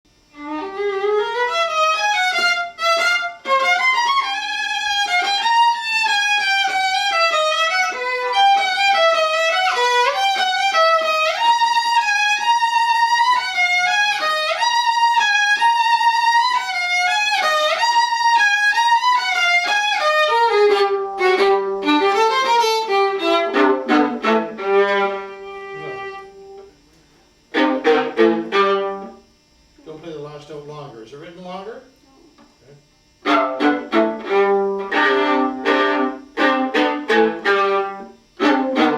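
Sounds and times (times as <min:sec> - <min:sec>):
bowed viola melody: 0:00.3 - 0:26.7, 0:27.5 - 0:29.3, 0:33.2 - 0:38.9.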